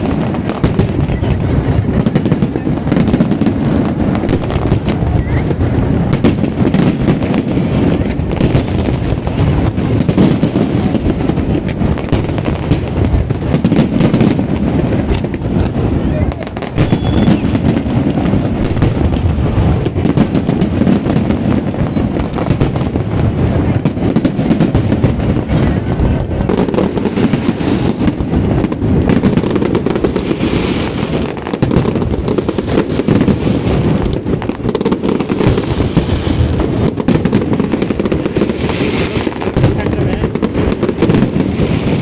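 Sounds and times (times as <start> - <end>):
fireworks bangs and crackling: 0.0 - 42.0.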